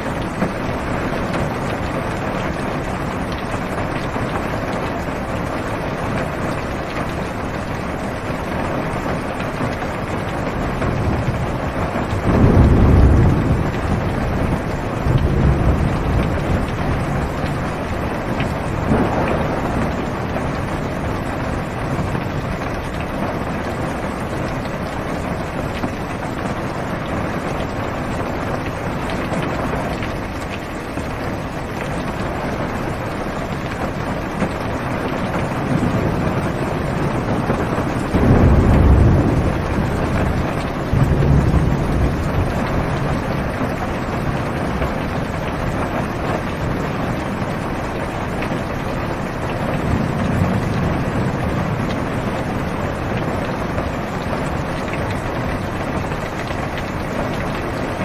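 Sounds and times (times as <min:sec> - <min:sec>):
low rumble of thunder: 0:00.0 - 0:58.0
rain on a car roof: 0:00.0 - 0:58.0.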